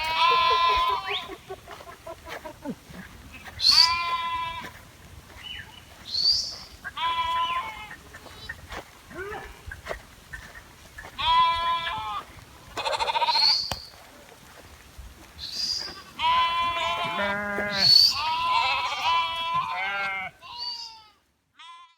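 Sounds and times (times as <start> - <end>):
sheep and goats bleating: 0.0 - 14.6, 15.4 - 21.9.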